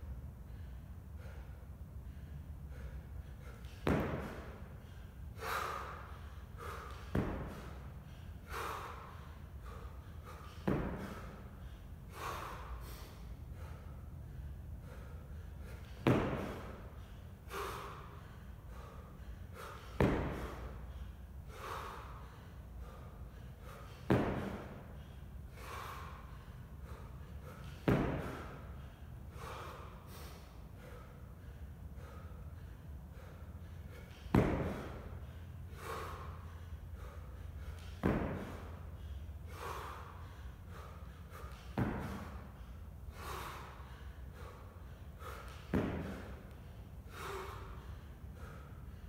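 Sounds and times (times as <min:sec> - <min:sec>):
man breathing heavily: 0:00.0 - 0:49.0.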